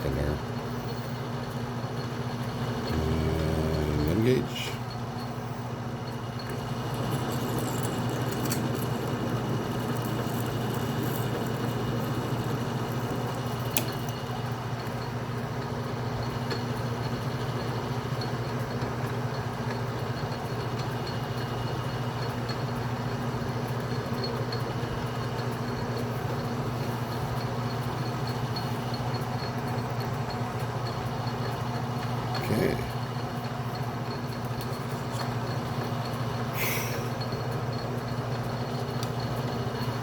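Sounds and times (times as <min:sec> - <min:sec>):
metal lathe motor and gear hum: 0:00.1 - 0:40.0.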